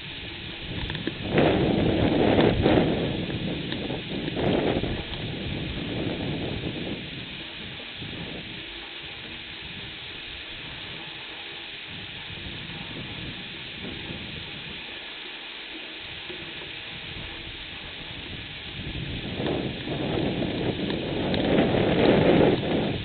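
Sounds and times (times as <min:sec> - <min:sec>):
wind gusts buffeting microphone: 0:00.0 - 0:11.2, 0:11.8 - 0:14.9, 0:16.1 - 0:23.0
steady rain hissing: 0:00.0 - 0:23.0.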